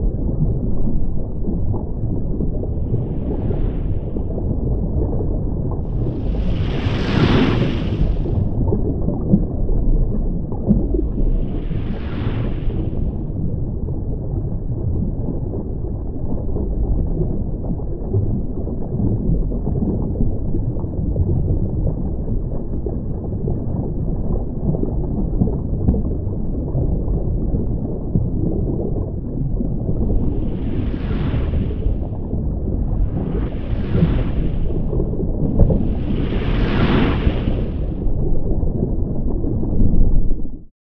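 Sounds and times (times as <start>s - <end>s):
muffled underwater rumble: 0.0s - 40.7s.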